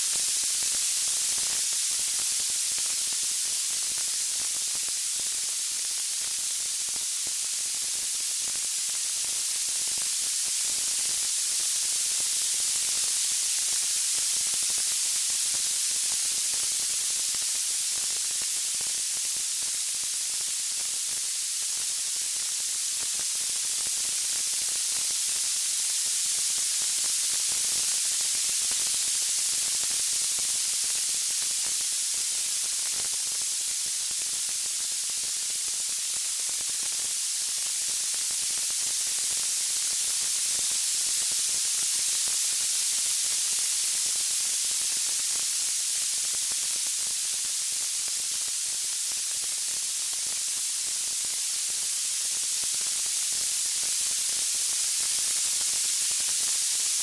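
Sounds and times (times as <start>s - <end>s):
high-pitched white noise hiss: 0.0s - 57.0s.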